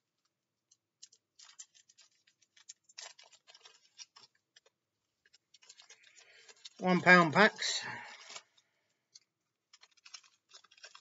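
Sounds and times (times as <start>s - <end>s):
foil wrapper crinkling: 1.0s - 11.0s.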